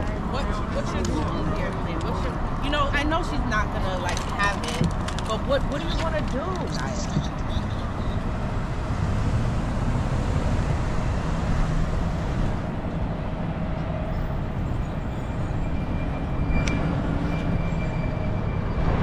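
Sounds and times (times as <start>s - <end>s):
street hum: 0.0s - 19.0s
traffic rumble: 0.0s - 19.0s.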